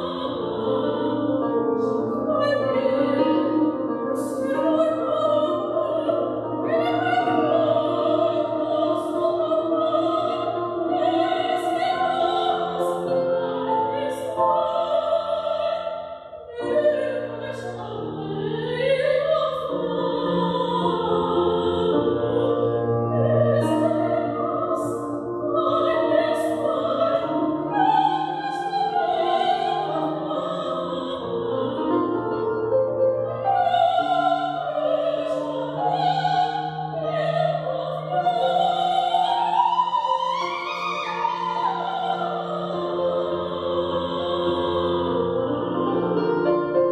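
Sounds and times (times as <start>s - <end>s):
woman singing operatically: 4.1s - 22.6s, 23.2s - 32.0s, 33.4s - 44.6s.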